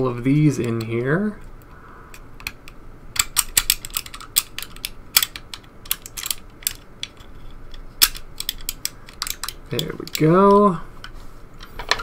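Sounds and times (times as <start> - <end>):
plastic parts clicking: 1.6 - 12.0.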